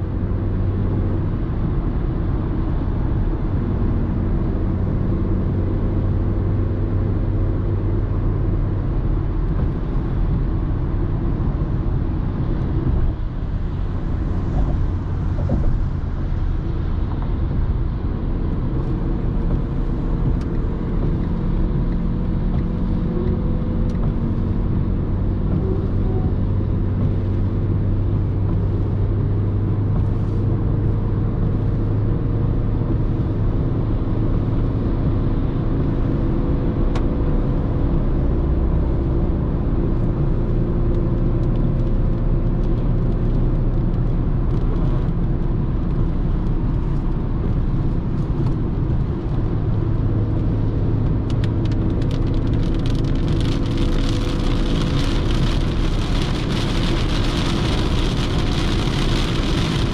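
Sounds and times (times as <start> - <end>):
car engine cruising: 0.0 - 59.9
tyre and road noise: 0.0 - 59.9.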